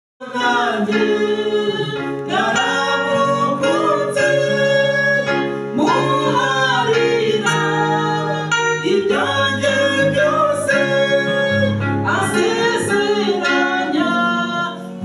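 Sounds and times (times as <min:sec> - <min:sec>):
man and woman singing gospel: 0:00.2 - 0:15.0.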